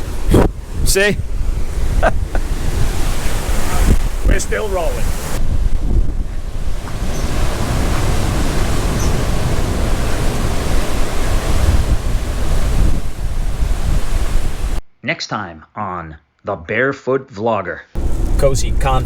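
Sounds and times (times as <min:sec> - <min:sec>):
surf pounding: 0:00.0 - 0:14.8, 0:18.0 - 0:19.0
wind buffeting microphone: 0:00.0 - 0:14.8, 0:18.0 - 0:19.0.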